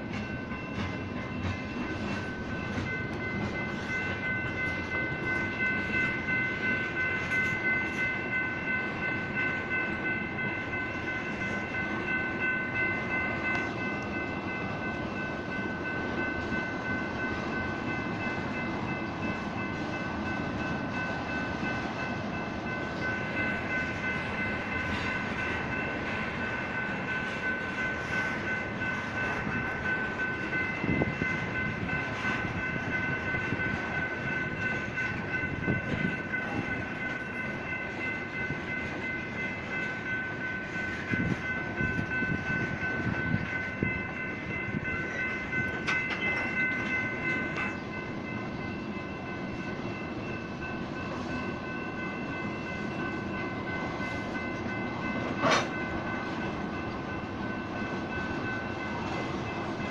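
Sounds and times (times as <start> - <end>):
crossing warning bells ringing: 0.0 - 59.9
train wheels rumbling and clacking: 0.0 - 59.9.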